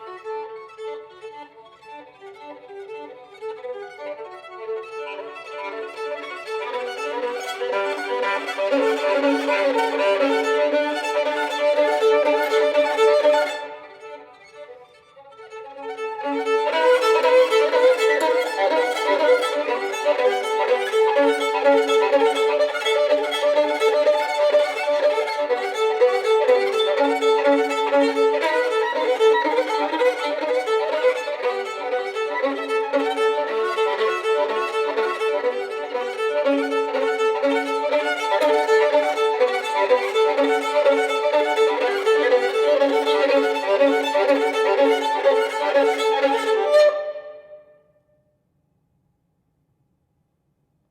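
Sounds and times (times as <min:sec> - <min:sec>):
solo violin playing: 0:00.0 - 0:47.8.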